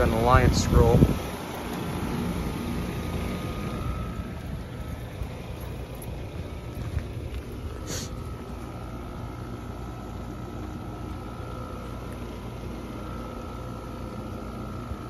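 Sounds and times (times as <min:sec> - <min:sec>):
faint steady whine: 0:00.0 - 0:15.0
heat pump humming: 0:00.0 - 0:15.0.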